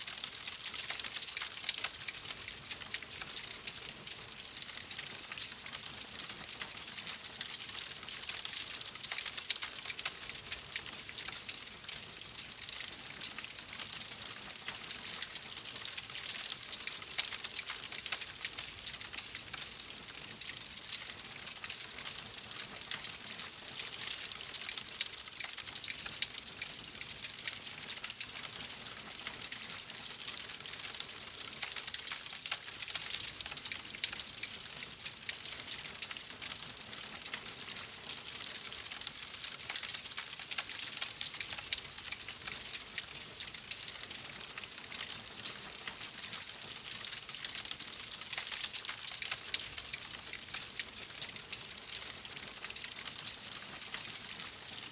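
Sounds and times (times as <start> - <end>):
wood fire crackling: 0.1 - 54.8.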